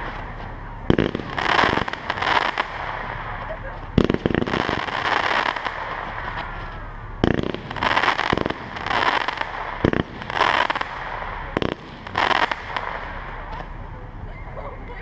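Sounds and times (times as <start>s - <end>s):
fireworks stars bursting: 0.0s - 13.6s
fireworks bangs: 0.0s - 14.2s.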